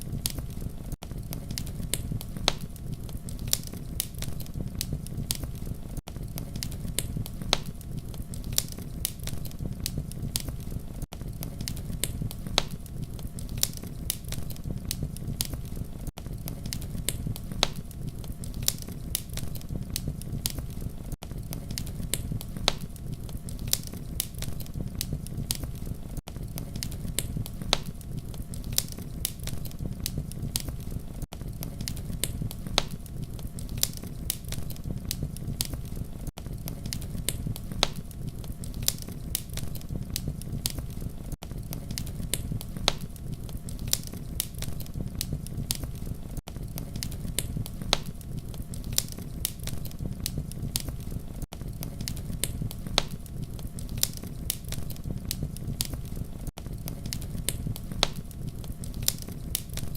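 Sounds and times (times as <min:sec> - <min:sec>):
burning wood crackling: 0:00.0 - 0:59.9
campfire flames rumbling: 0:00.0 - 0:59.9.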